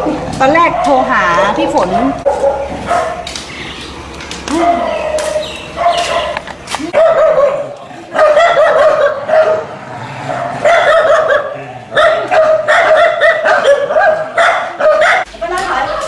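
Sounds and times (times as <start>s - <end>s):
dogs barking and yelping: 0.0s - 16.0s.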